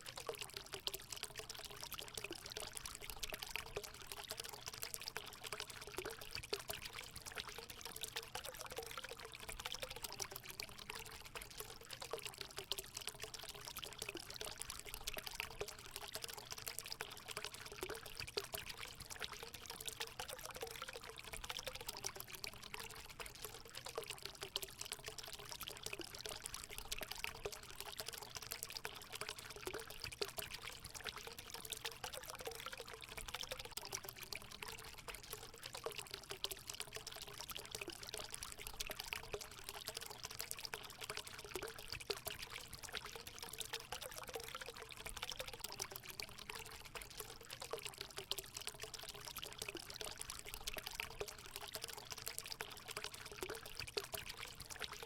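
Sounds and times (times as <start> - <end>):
water pouring into a pool: 0.0 - 55.0.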